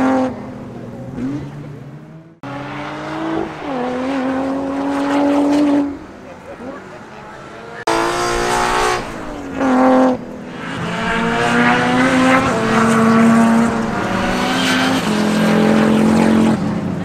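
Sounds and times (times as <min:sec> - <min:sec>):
race car engines passing at high revs: 0:00.0 - 0:17.0.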